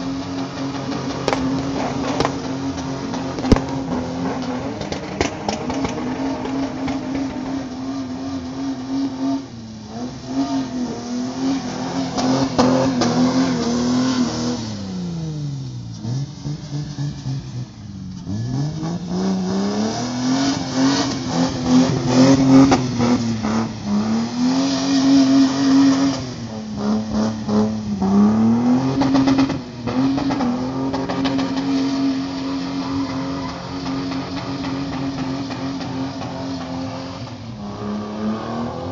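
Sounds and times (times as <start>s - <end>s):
tyres scrubbing on wet pavement: 0.0s - 38.9s.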